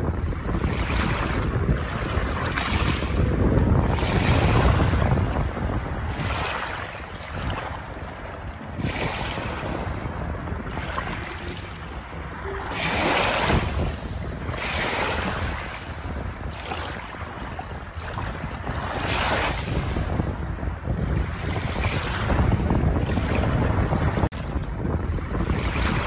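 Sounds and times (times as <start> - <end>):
waves lapping on pebbles: 0.0 - 26.0
wind rumble on microphone: 0.0 - 26.0.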